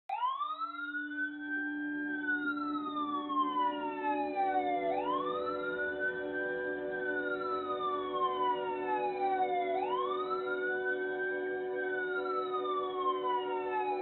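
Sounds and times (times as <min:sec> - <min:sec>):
wailing emergency siren: 0:00.1 - 0:14.0.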